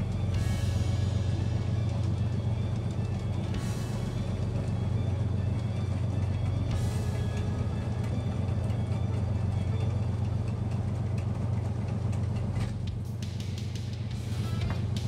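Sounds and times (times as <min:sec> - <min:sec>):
boat engine droning: 0:00.0 - 0:15.0
water and wake noise: 0:00.0 - 0:15.0.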